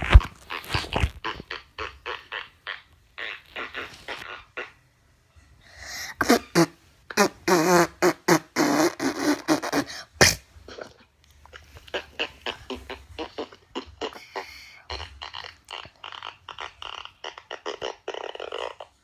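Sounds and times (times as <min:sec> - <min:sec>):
fart-like sputters: 0:00.0 - 0:04.8, 0:06.2 - 0:10.9, 0:11.5 - 0:19.0.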